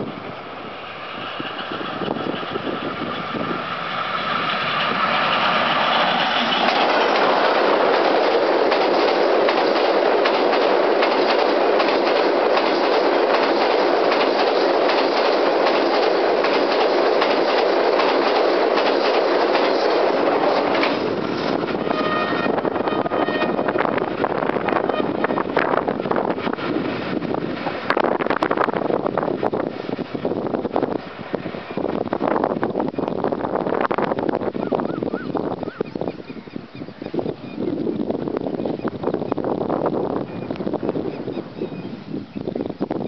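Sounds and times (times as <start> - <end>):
locomotive engine approaching: 0.0 - 38.9
train wheels rushing on rail: 0.0 - 43.0.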